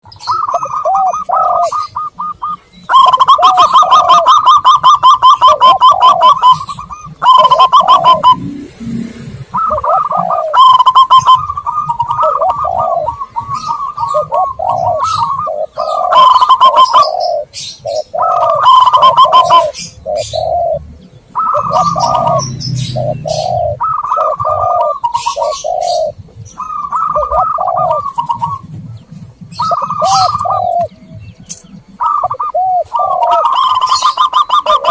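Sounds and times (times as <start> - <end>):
doves cooing: 0.0 - 34.9.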